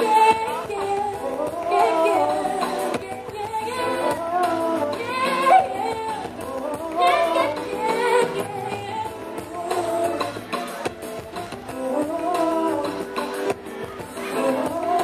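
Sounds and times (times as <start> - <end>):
woman singing: 0.0 - 10.6, 11.4 - 15.0
instrumental backing: 0.0 - 15.0.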